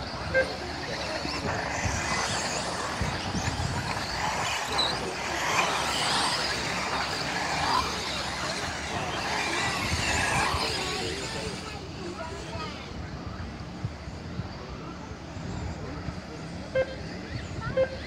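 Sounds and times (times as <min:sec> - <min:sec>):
electric rc car motors whining: 0:00.0 - 0:14.1, 0:17.0 - 0:18.0.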